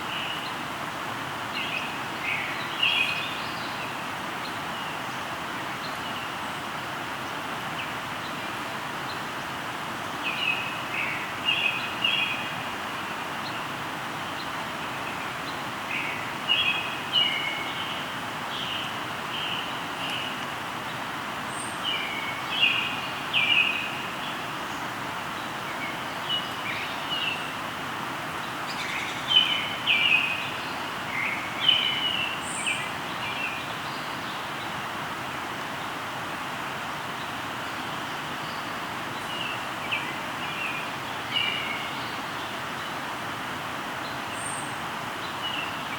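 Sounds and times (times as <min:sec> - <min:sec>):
river flowing: 0:00.0 - 0:45.9
songbirds chirping: 0:00.0 - 0:45.9.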